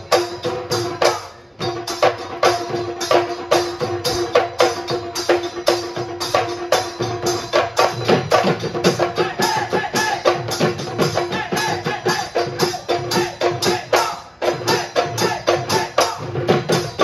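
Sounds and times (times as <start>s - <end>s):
clacking and jingling percussion: 0.0s - 17.0s
dhol drums beaten fast: 0.0s - 17.0s.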